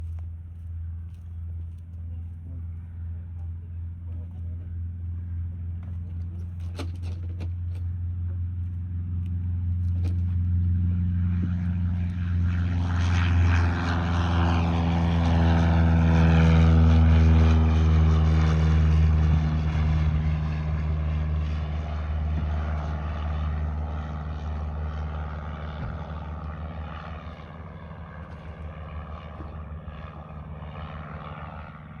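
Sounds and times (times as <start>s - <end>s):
plane engine and propeller: 0.0s - 32.0s.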